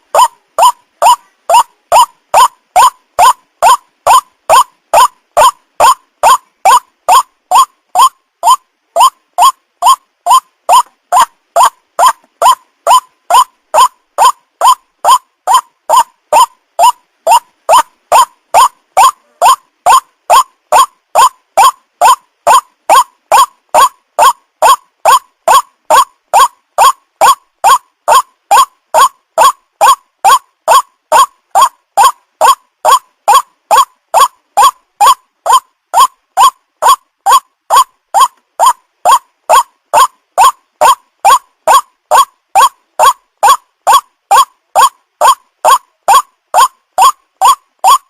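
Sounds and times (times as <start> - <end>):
waterhen calls: 0.0 - 48.0.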